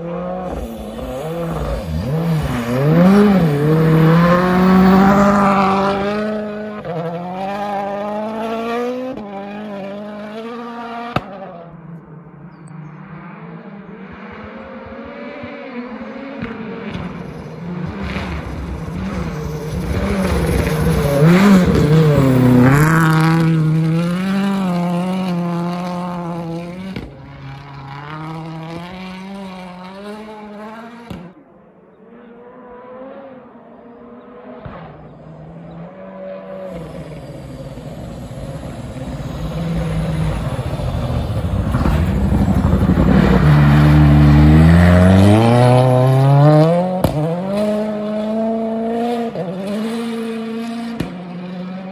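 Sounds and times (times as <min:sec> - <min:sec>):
rally car engine revving: 0:00.0 - 0:11.8, 0:14.1 - 0:31.4, 0:32.0 - 0:51.9.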